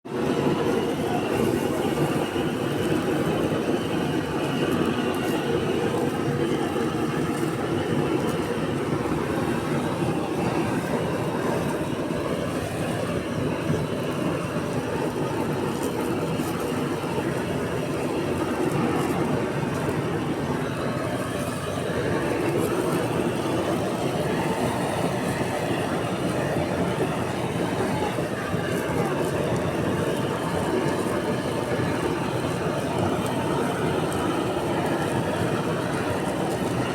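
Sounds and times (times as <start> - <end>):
blowtorch flame rushing: 0.1 - 36.9.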